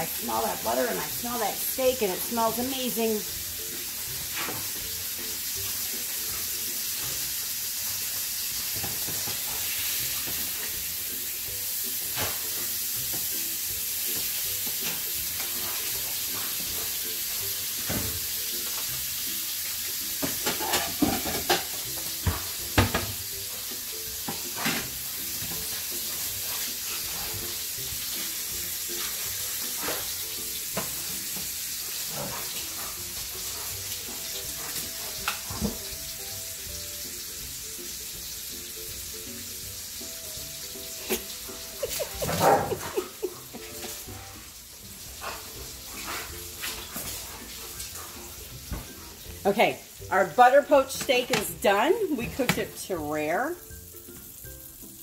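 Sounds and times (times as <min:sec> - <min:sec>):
steak sizzling in a frying pan: 0:00.0 - 0:55.0.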